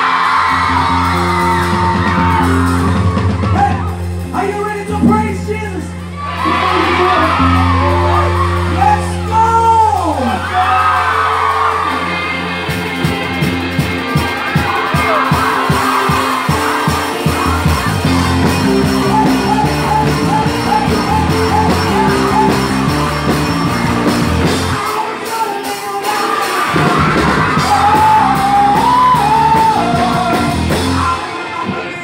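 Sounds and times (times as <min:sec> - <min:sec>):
steady drum beat: 0:00.0 - 0:31.3
live rock band playing: 0:00.0 - 0:32.0
voices singing and shouting: 0:05.1 - 0:12.6, 0:13.7 - 0:32.0.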